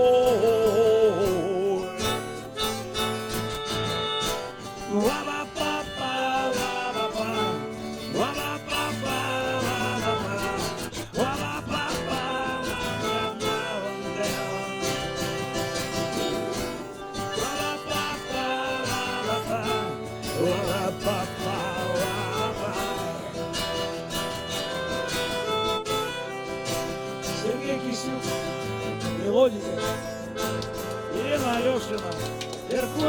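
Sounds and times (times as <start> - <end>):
plucked guitar: 0.0 - 33.0.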